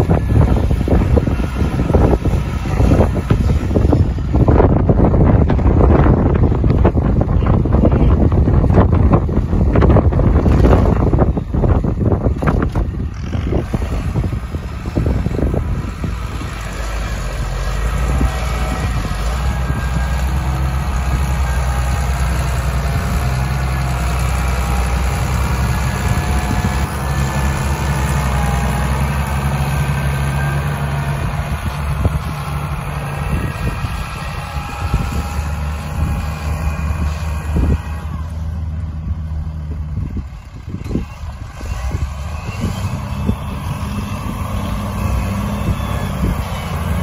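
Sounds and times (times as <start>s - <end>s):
tractor engine running: 0.0s - 47.0s
wind buffeting microphone: 0.0s - 47.0s.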